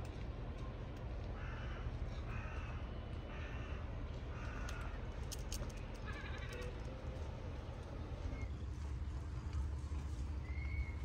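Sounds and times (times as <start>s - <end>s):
low outdoor background: 0.0s - 11.0s.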